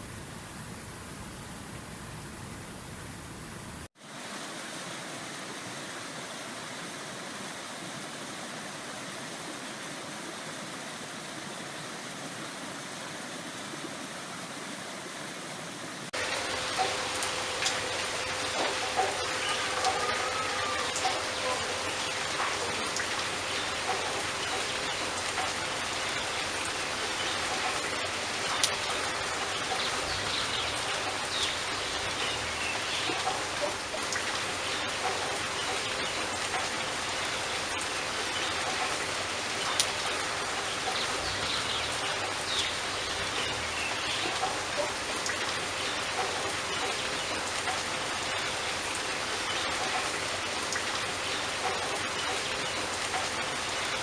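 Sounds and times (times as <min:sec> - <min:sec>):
river water rushing: 0:04.0 - 0:54.0.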